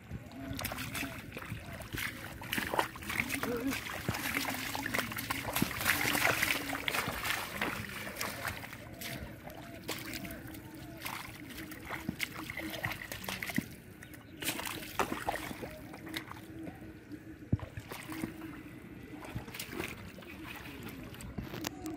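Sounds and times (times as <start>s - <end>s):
faint steady hum: 0.0s - 21.9s
splashing in mud and water: 0.0s - 21.9s.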